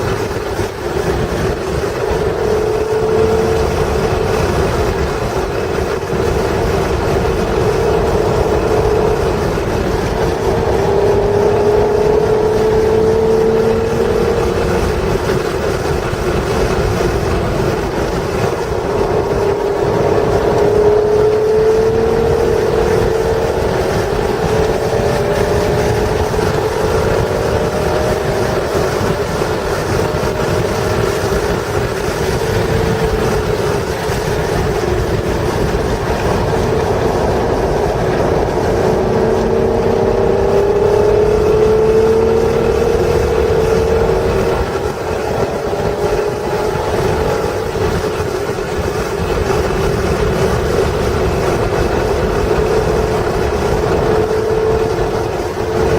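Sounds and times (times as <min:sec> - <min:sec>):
car engine revving at speed: 0:00.0 - 0:55.9
wind and road noise rumble: 0:00.0 - 0:55.9.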